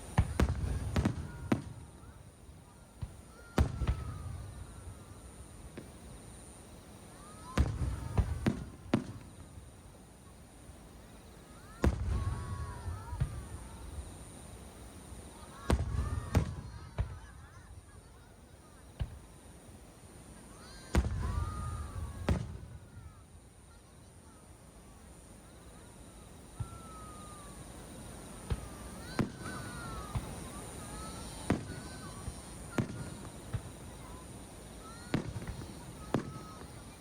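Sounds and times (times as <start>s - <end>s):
fireworks bursting with bangs: 0.0s - 37.0s.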